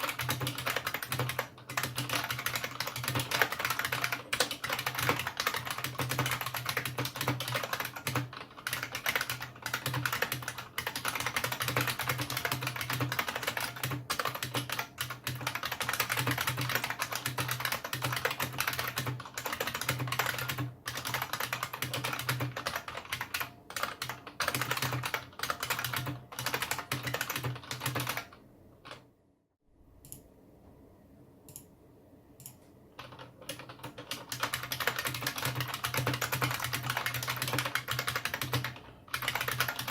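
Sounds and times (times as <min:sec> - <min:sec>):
fast keyboard typing: 0:00.0 - 0:29.1, 0:33.0 - 0:39.9.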